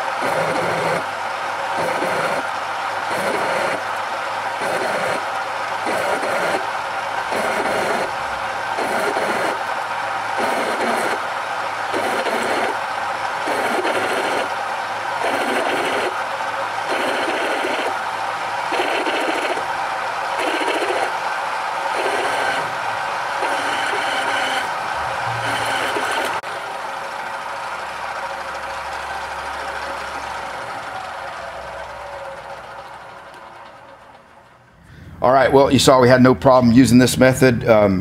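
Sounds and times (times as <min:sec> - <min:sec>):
drill press whining through steel: 0:00.0 - 0:34.8.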